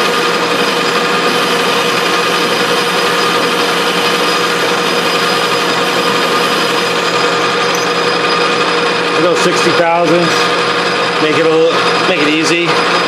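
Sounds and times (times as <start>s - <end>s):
constant whining tones: 0.0s - 13.0s
metal lathe cutting: 0.0s - 13.0s.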